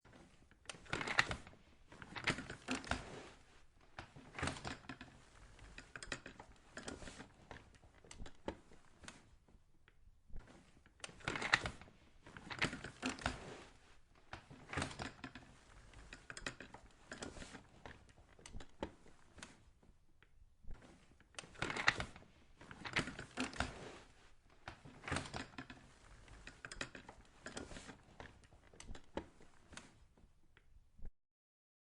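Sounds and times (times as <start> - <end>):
office chair creaking and rattling: 0.0 - 9.7, 10.3 - 30.4.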